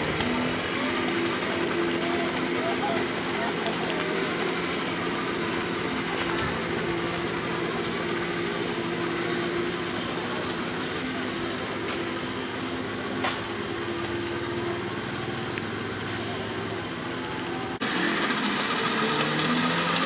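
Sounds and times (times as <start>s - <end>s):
tank engine drone through small speaker: 0.0s - 20.0s.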